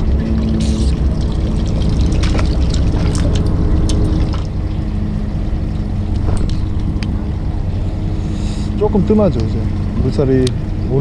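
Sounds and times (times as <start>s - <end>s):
boat engine running: 0.0s - 11.0s
water sloshing around hull: 0.0s - 11.0s.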